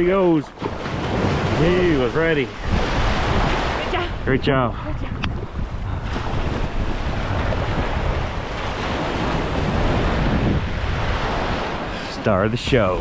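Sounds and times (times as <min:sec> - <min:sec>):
surf waves breaking: 0:00.0 - 0:13.0
wind buffeting microphone: 0:00.0 - 0:13.0.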